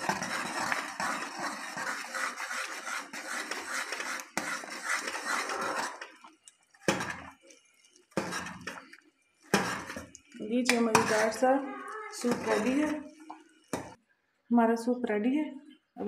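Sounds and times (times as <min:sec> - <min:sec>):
metal spoon stirring in a pot: 0:00.0 - 0:14.0.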